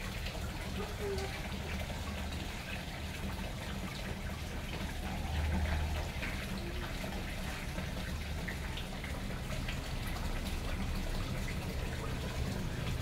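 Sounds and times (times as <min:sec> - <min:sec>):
water splashing into pond: 0:00.0 - 0:13.0.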